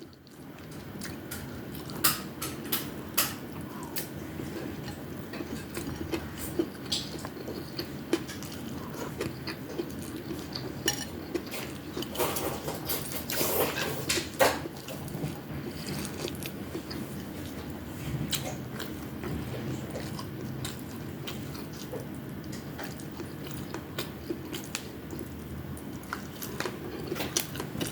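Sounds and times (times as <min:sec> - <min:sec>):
close-up chewing: 0:00.0 - 0:02.3, 0:03.5 - 0:13.8, 0:14.6 - 0:27.9.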